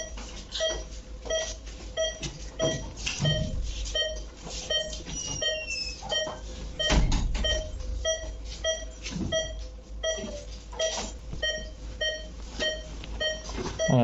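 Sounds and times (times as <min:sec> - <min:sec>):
pulse oximeter beeping: 0:00.0 - 0:14.0.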